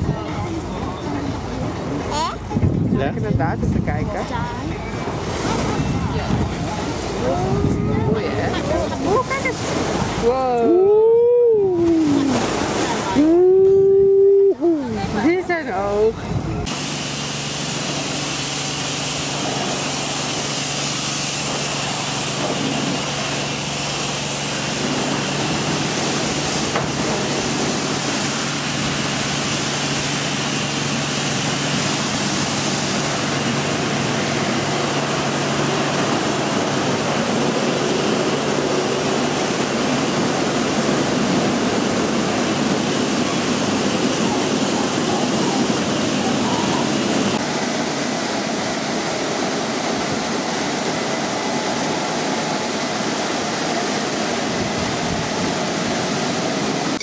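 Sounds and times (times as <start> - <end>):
water spray and spinning brushes: 3.5 - 10.7, 11.8 - 13.3, 16.6 - 57.0.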